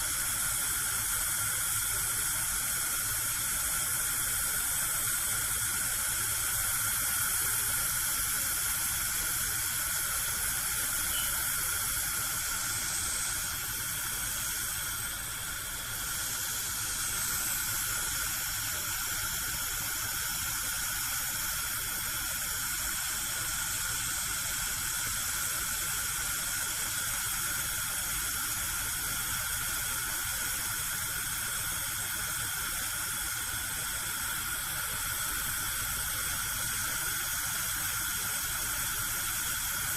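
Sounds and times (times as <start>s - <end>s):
gas burner hissing: 0.0s - 39.9s.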